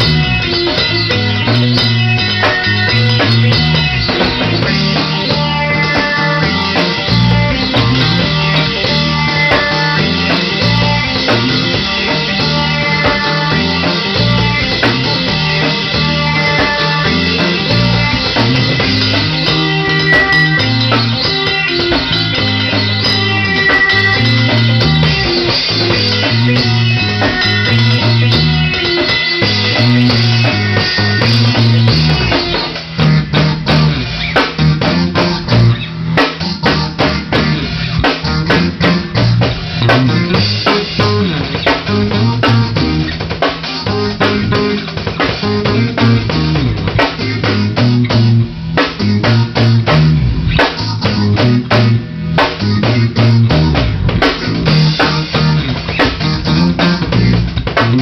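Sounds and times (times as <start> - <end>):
drum kit steady beat: 0.0 - 58.0
electric guitar low riff: 0.0 - 58.0.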